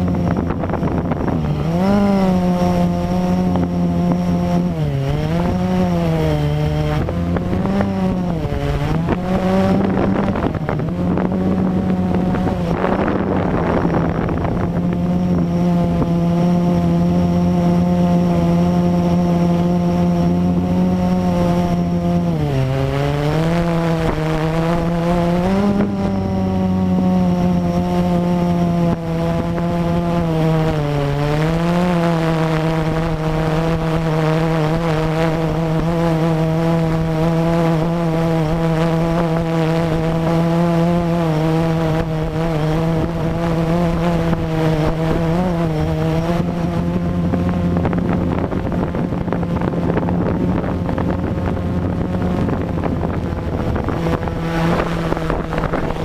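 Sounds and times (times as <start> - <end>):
drone motors and propellers humming: 0.0 - 56.0.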